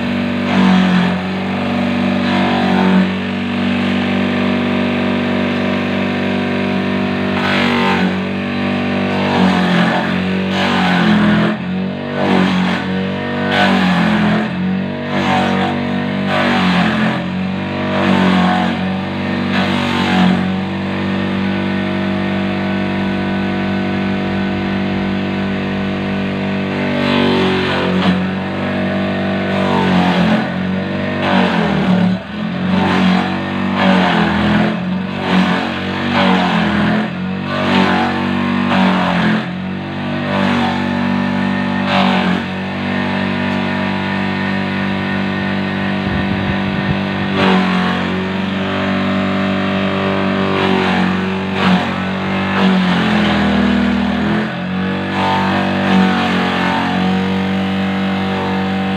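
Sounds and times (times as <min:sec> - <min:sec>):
electric motor hum: 0:00.0 - 0:58.9.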